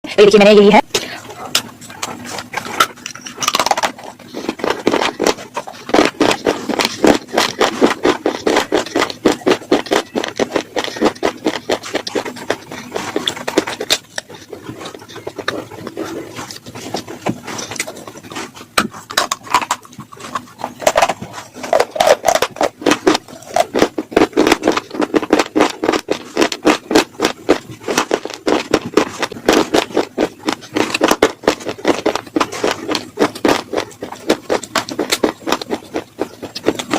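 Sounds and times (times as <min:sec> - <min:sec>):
slate pencils crunching when chewed: 0:00.9 - 0:36.9.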